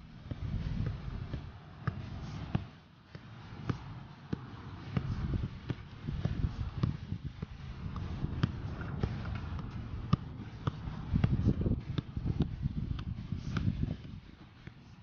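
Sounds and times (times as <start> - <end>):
soccer ball taps on foot: 0.2 - 15.0.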